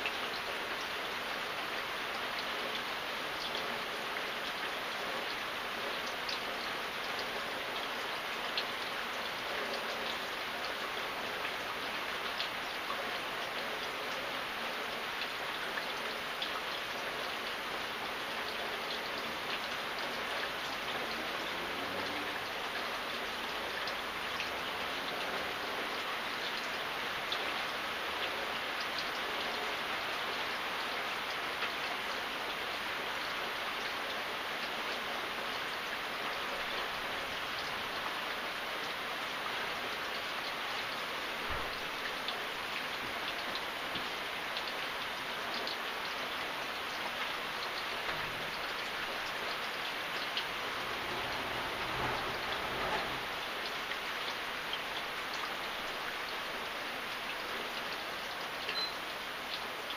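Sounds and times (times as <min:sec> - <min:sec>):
rain falling: 0:00.0 - 0:59.9
raindrops ticking on a surface: 0:00.0 - 0:59.9.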